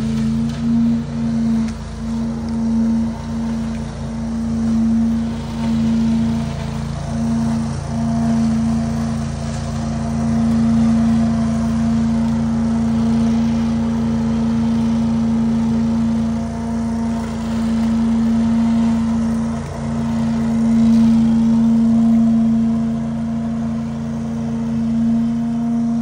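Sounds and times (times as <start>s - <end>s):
leaf vacuum engine running: 0.0s - 26.0s.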